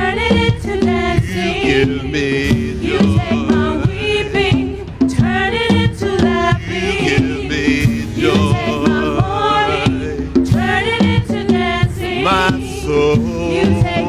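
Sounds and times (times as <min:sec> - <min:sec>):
voices singing: 0:00.0 - 0:14.0
band music with steady beat: 0:00.3 - 0:14.0.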